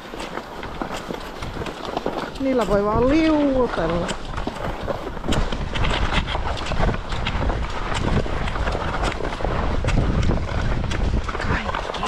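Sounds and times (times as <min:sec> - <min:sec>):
snowshoes crunching on snow: 0:00.0 - 0:10.1
wind buffeting microphone: 0:00.0 - 0:12.0.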